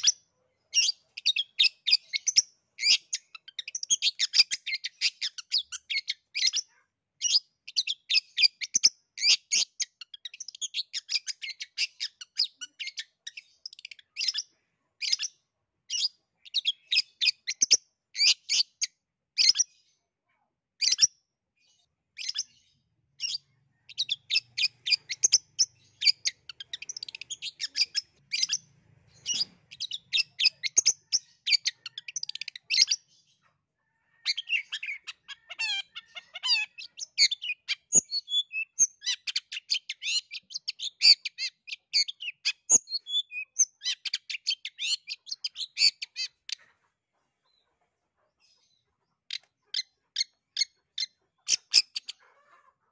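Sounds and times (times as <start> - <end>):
bird chattering high chirps: 0.0 - 19.8, 20.8 - 46.7, 48.4 - 52.9.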